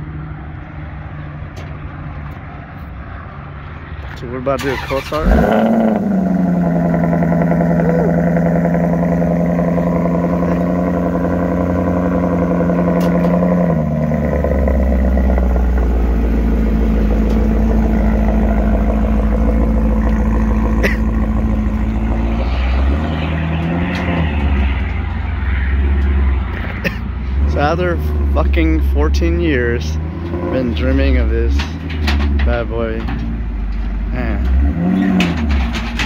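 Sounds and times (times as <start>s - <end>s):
car engine idling: 4.0s - 36.0s.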